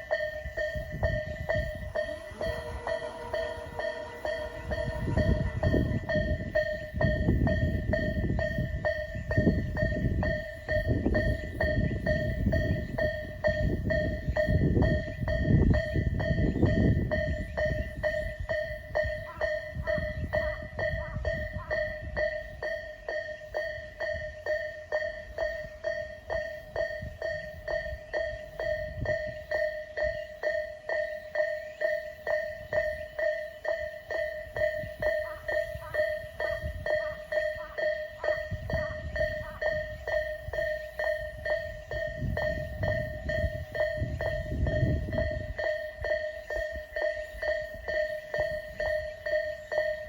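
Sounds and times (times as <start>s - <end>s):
level crossing alarm bell: 0.0s - 50.0s
train rumbling: 0.0s - 50.0s.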